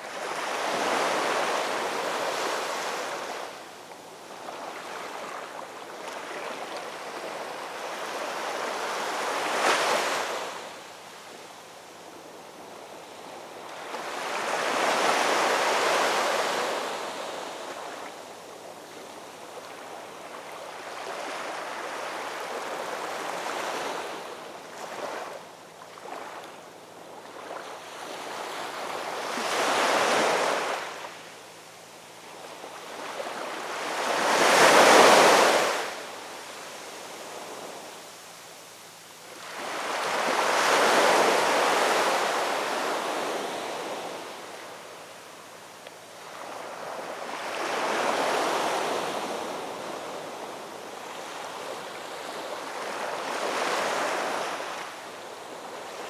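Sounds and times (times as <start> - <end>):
ocean waves breaking on shore: 0.0 - 11.4, 12.2 - 31.3, 32.2 - 38.4, 39.0 - 45.5, 46.2 - 56.0.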